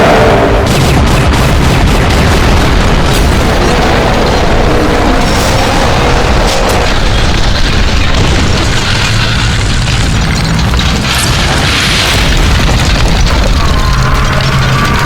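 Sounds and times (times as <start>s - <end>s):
explosions booming: 0.0s - 15.0s.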